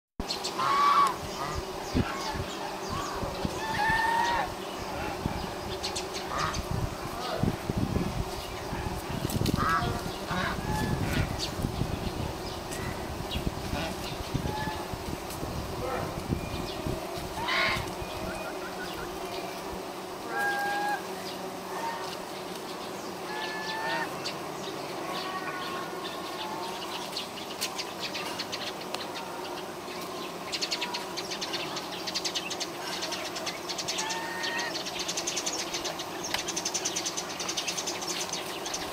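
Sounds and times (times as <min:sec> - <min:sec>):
bees humming: 0:00.2 - 0:38.9.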